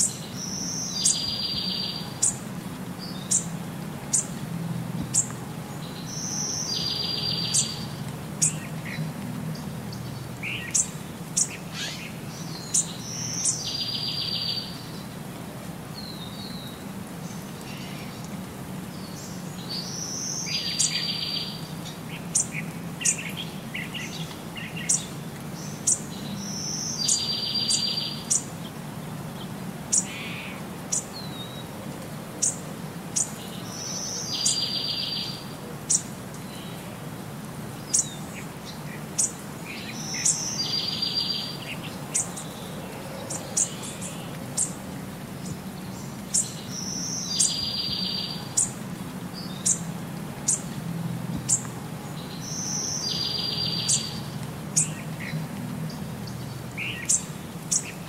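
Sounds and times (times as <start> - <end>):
birds chirping: 0.0 - 15.2, 16.0 - 31.8, 32.4 - 37.0, 37.6 - 58.0.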